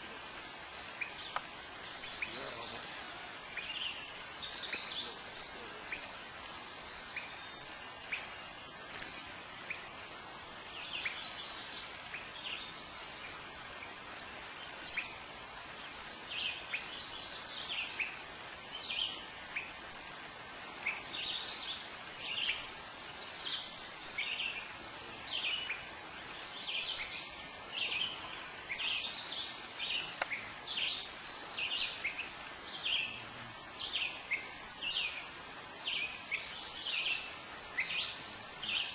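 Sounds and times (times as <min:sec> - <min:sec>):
soft steady hiss: 0:00.0 - 0:38.9
songbirds chirping: 0:00.0 - 0:38.9.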